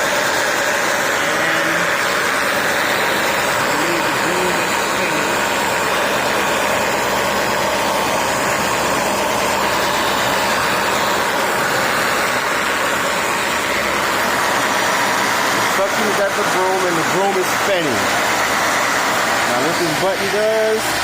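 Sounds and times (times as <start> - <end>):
upright vacuum cleaner running: 0.0 - 21.0.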